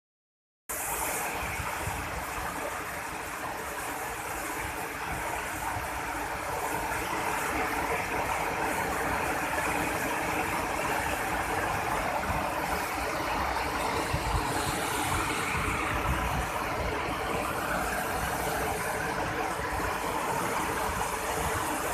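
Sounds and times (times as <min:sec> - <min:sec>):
waterfall rushing: 0:00.7 - 0:21.9.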